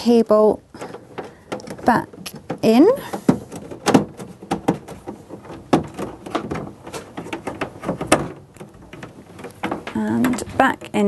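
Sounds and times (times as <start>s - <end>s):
cable rubbing and rustling: 0.6s - 11.0s
plastic clicks and knocks: 0.8s - 11.0s.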